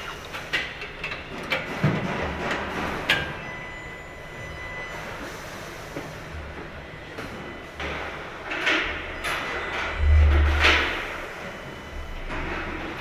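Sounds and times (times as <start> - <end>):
factory hum and hiss: 0.0 - 13.0.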